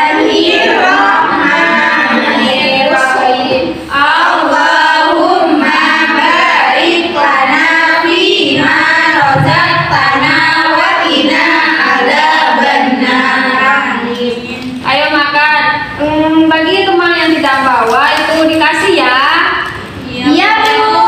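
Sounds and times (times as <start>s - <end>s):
women chanting a prayer in unison: 0.0s - 21.0s.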